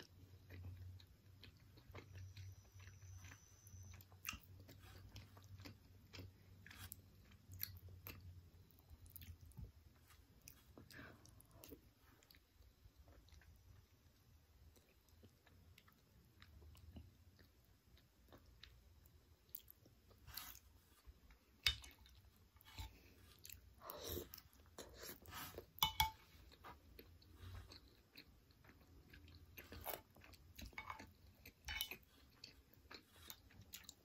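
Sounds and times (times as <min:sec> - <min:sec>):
chewing and mouth sounds: 0:00.0 - 0:34.0.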